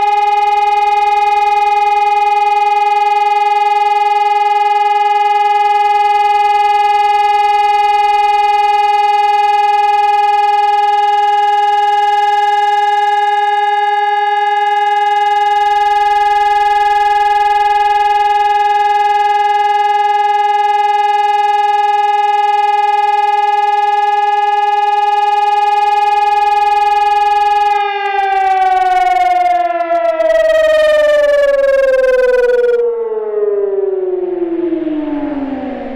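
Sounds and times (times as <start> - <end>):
electronic siren steady tone: 0.0 - 35.9.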